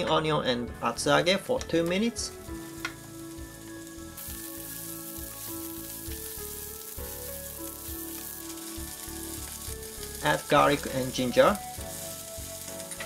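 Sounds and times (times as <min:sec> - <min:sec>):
soft background music: 0:00.0 - 0:13.0
food sizzling in oil: 0:01.8 - 0:13.0.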